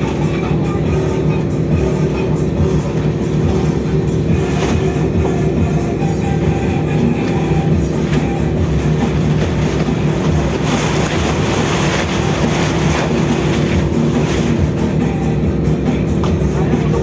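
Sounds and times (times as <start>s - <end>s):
ship engine drone: 0.0s - 17.0s.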